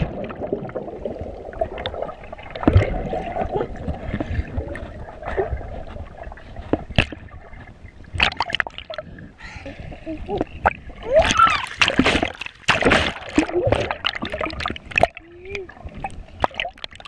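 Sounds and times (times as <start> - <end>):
underwater rushing and gurgling: 0.0 - 17.0.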